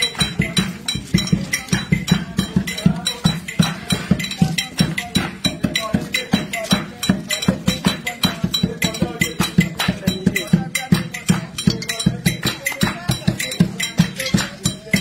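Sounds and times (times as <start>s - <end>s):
bell-like clink: 0.0s - 15.0s
drums: 0.0s - 15.0s.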